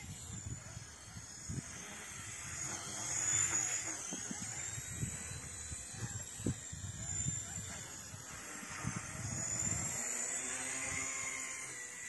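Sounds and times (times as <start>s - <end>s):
wind on microphone: 0.0s - 11.6s
rc helicopter whine: 0.0s - 12.0s.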